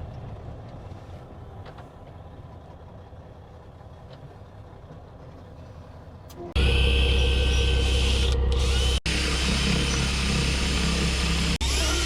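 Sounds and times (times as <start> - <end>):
diesel truck engine idling: 1.2 - 12.0.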